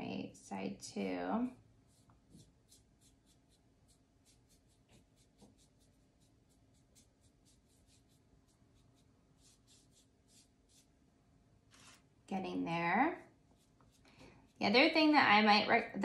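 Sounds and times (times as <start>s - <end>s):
paintbrush strokes: 1.5s - 12.2s, 13.0s - 15.2s.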